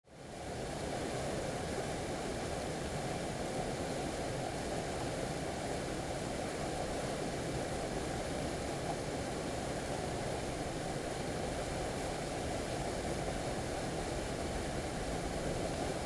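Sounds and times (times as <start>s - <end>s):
mountain stream rushing: 0.2s - 16.0s.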